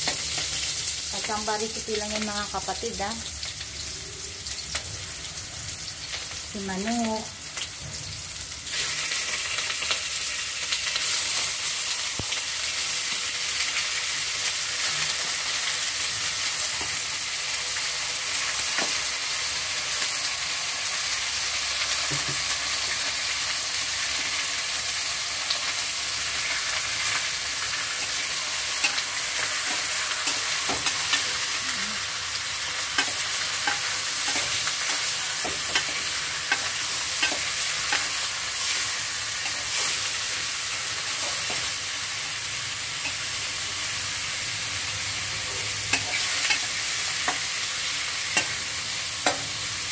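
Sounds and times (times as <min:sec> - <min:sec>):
chicken sizzling in oil: 0:00.0 - 0:49.9.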